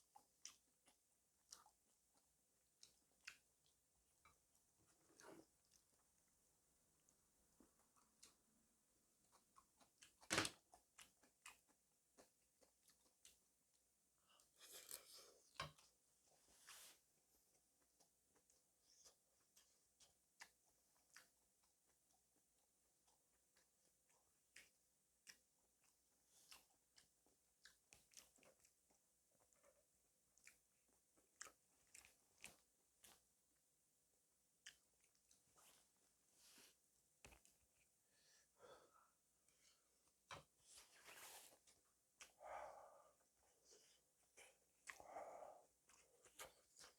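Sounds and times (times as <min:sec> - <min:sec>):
soft chewing: 0:00.0 - 0:46.9.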